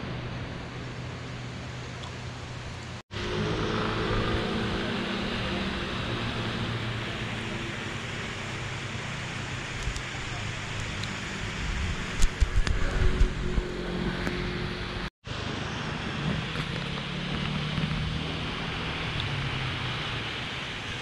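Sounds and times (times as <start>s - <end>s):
outdoor background noise: 0.0s - 21.0s
vehicle engine passing: 0.0s - 21.0s.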